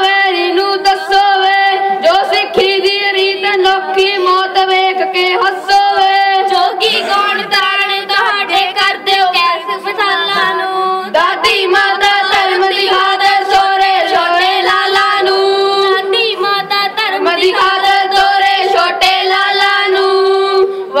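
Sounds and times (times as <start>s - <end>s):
children singing devotional song: 0.0s - 21.0s.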